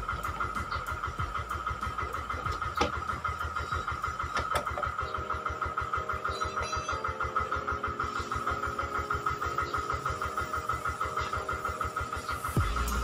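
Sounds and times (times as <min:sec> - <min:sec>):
motor running with whine: 0:00.0 - 0:13.0.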